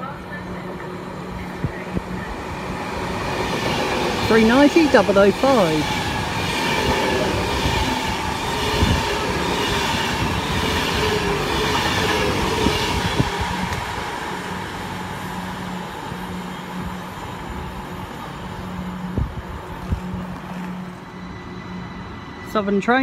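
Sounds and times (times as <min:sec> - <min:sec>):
electric train rumbling past: 0:00.0 - 0:23.0
low hum of train: 0:00.0 - 0:23.0.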